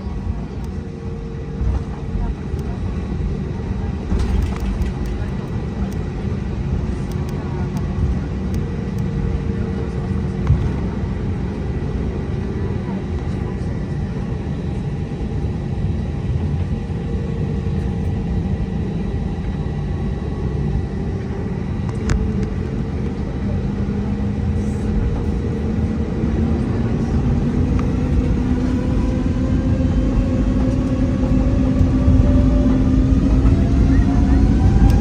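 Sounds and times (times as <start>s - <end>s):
jet engine whine rising: 0.0s - 35.0s
jet engines rumbling: 0.0s - 35.0s.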